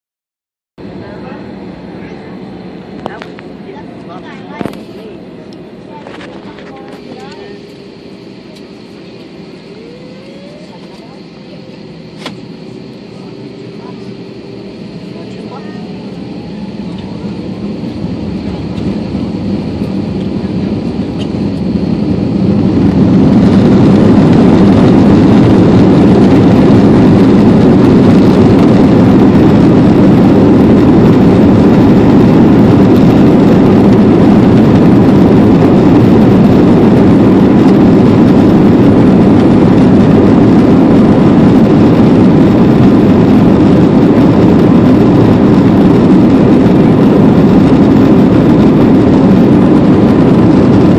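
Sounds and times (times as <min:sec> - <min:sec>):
aircraft engines spooling up: 0:00.8 - 0:50.9
rush of engine and airflow: 0:00.8 - 0:50.9.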